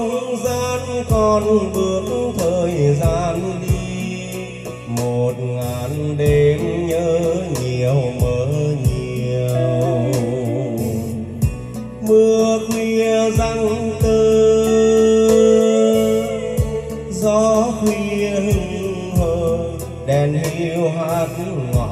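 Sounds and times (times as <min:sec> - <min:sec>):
ballad over loudspeakers: 0:00.0 - 0:21.9.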